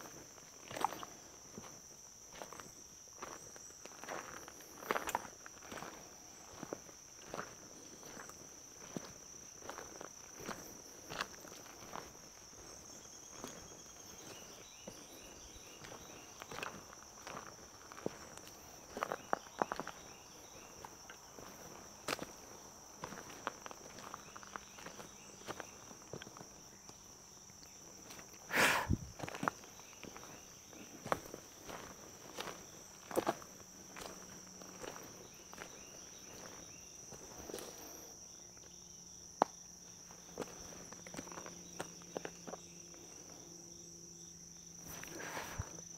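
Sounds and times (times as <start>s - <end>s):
footsteps walking: 0.0s - 27.0s, 28.0s - 38.1s
high-pitched insect drone: 0.0s - 45.9s.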